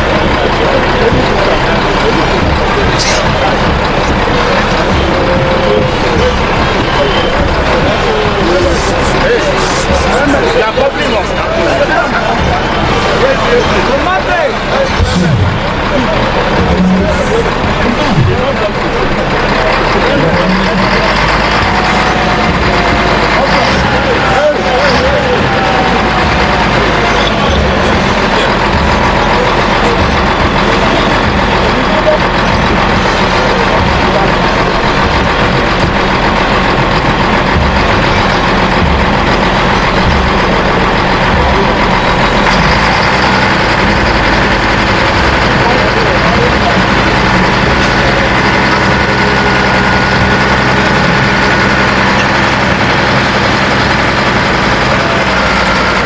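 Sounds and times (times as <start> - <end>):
heavy engine running: 0.0 - 56.0.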